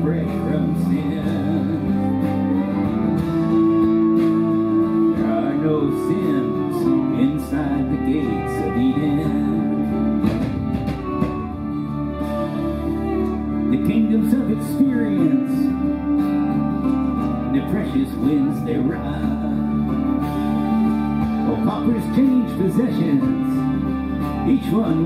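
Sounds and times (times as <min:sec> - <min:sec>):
guitar with long held notes: 0:00.0 - 0:25.0
person singing: 0:00.0 - 0:25.0.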